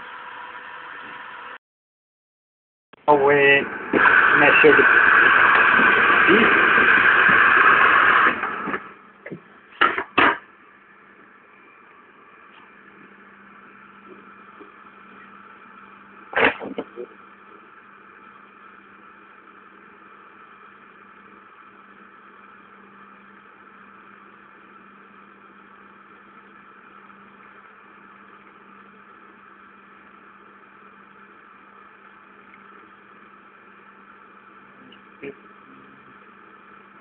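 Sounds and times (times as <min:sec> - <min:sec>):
machine hum with whine: 0:00.0 - 0:01.6, 0:03.0 - 0:37.0.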